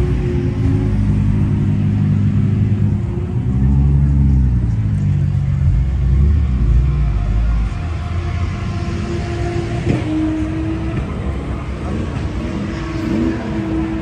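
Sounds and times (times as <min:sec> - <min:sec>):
car engine running loudly: 0:00.0 - 0:14.0.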